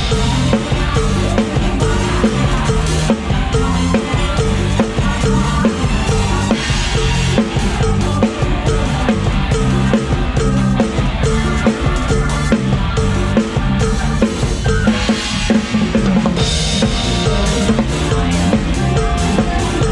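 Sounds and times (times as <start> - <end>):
bass line: 0.0 - 19.9
drum kit beat: 0.0 - 19.9
live band music: 0.0 - 19.9.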